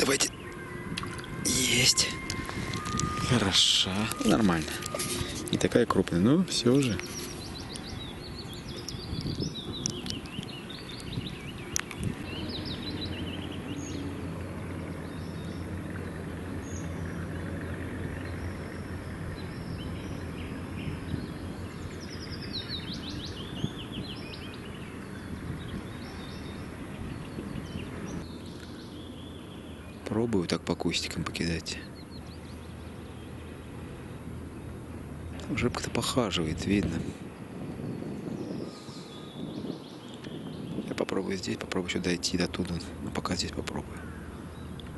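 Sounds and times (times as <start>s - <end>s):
low steady hum: 0.0s - 40.8s
outdoor background noise: 0.0s - 44.9s
small birds chirping and trilling: 0.0s - 44.9s.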